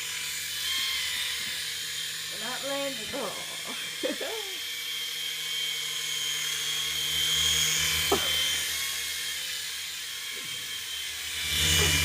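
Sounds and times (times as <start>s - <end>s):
toy helicopter motor whine: 0.0s - 12.0s.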